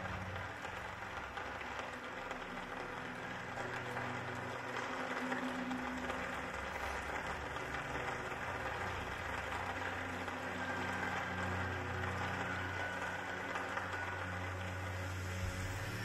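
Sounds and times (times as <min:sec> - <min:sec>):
low steady drone: 0:00.0 - 0:16.0.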